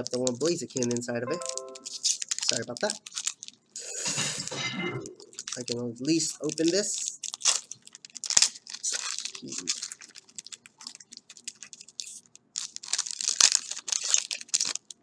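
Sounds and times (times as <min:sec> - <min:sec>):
foil wrapper tearing and crinkling: 0:00.0 - 0:04.5, 0:05.1 - 0:15.0.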